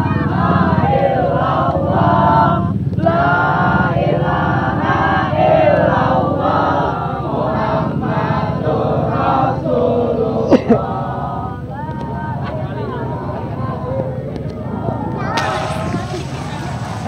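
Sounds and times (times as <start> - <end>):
crowd chanting in unison: 0.0 - 12.4, 13.6 - 17.0.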